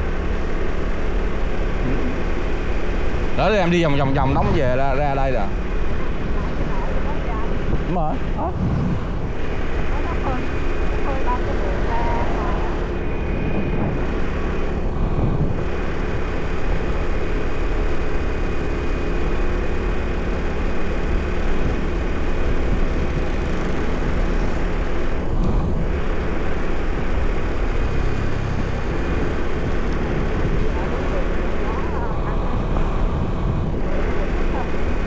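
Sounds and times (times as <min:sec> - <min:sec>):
road noise: 0:00.0 - 0:35.0
vehicle motor running: 0:00.0 - 0:35.0
wind noise: 0:00.0 - 0:35.0.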